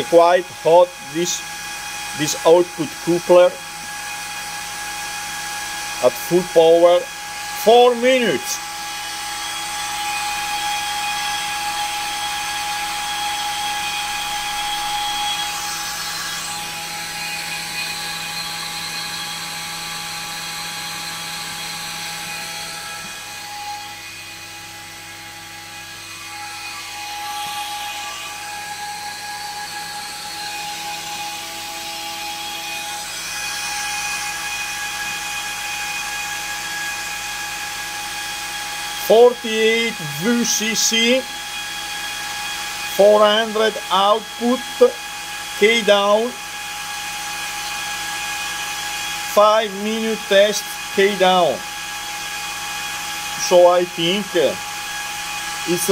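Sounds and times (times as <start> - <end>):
cooling fan whine: 0.0 - 55.9.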